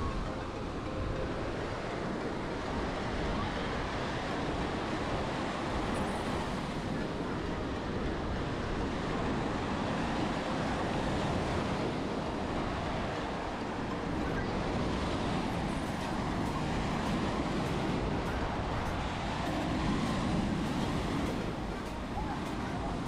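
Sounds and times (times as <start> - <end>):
surf breaking on a beach: 0.0 - 23.0
wind: 0.0 - 23.0.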